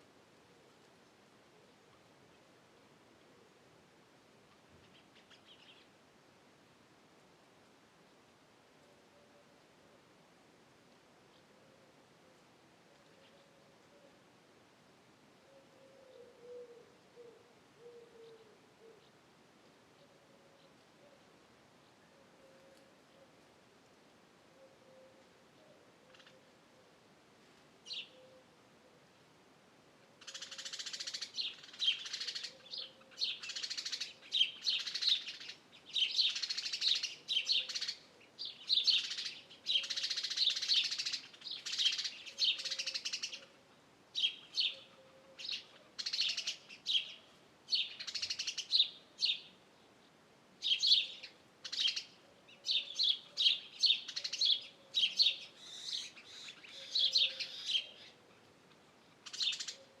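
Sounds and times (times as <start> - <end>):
songbirds chirping: 0.0 - 60.0.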